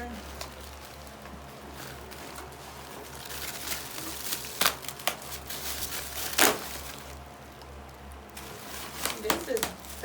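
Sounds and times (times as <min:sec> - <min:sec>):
cardboard and packing rustling: 0:00.0 - 0:10.0.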